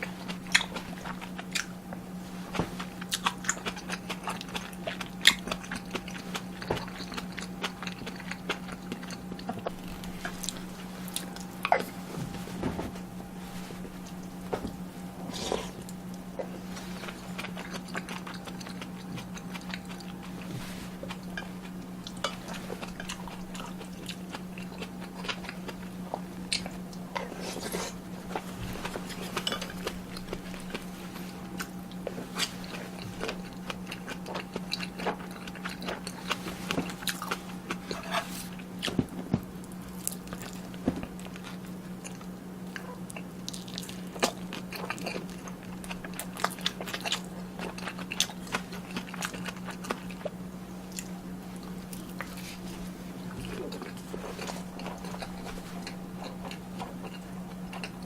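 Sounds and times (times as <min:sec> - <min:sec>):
person chewing food: 0:00.0 - 0:58.0
steady low hum: 0:00.0 - 0:58.0.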